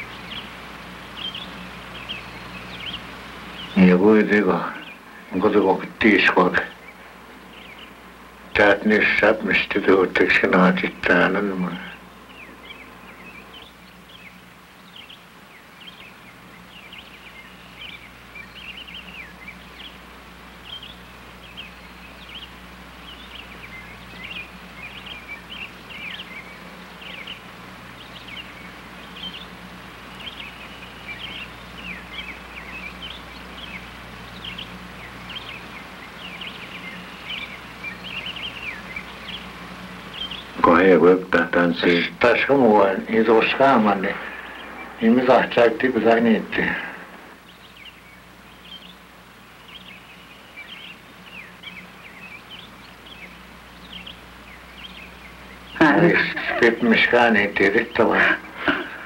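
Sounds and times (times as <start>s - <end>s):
low electrical hum: 0.0s - 59.0s
small birds chirping: 0.0s - 59.0s.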